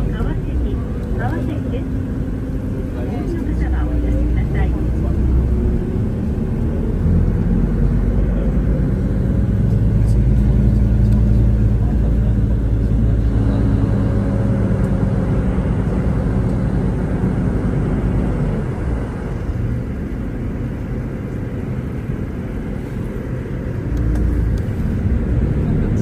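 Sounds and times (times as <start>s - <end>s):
car engine hum: 0.0s - 26.0s
tyre and road rumble: 0.0s - 26.0s.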